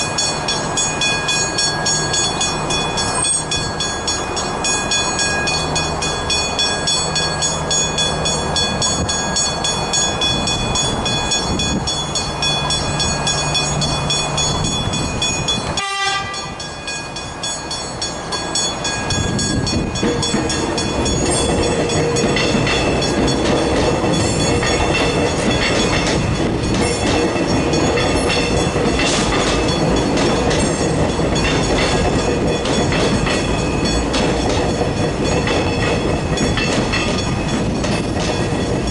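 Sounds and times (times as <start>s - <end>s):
electric train passing: 0.0s - 38.9s
level crossing warning bells: 0.0s - 38.9s
rail rumble: 0.0s - 38.9s.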